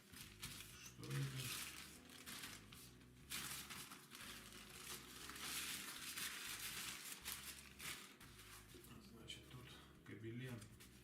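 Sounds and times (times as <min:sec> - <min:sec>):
plastic packaging rustling: 0:00.0 - 0:09.0.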